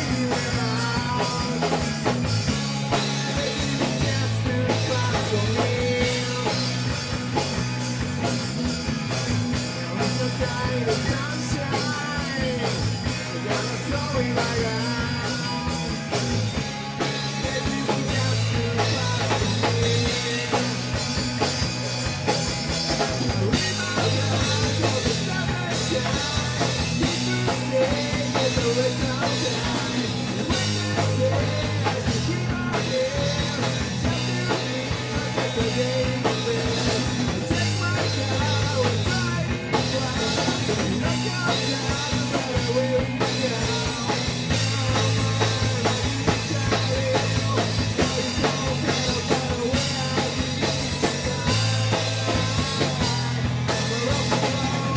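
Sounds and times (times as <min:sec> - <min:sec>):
rock band playing: 0:00.0 - 0:54.9.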